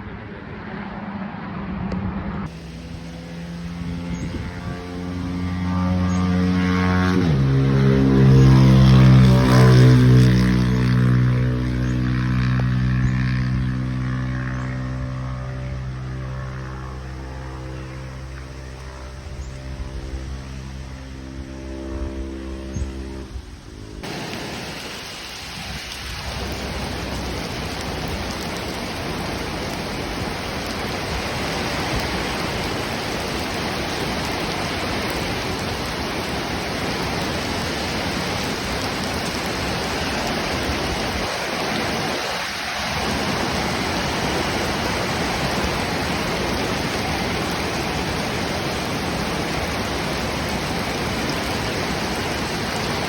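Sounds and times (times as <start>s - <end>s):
storm wind with rain: 0.0s - 53.0s.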